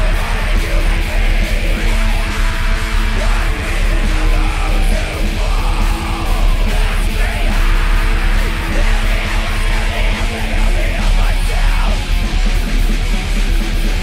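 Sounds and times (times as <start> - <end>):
fast driving drums: 0.0 - 14.0
heavy metal music: 0.0 - 14.0
yelled vocals: 0.0 - 14.0.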